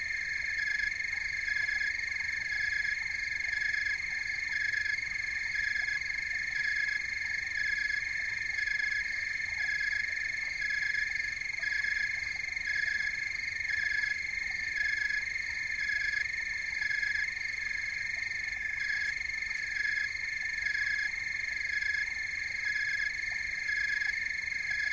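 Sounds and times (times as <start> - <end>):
continuous ringing tones: 0.0 - 24.9.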